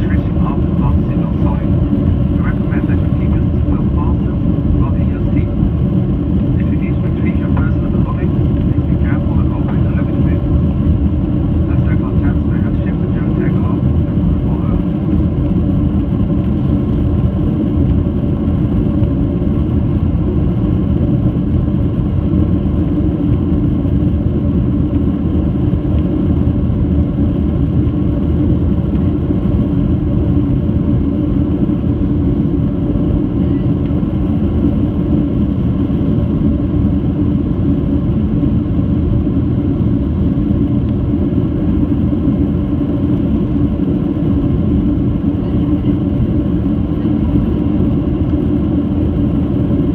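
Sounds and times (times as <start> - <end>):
jet engine rumble in cabin: 0.0 - 49.9.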